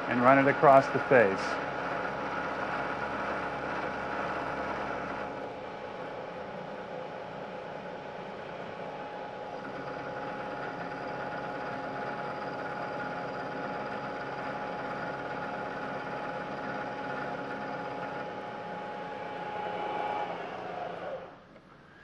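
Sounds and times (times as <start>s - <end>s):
milling machine whine and hiss: 0.0s - 22.0s.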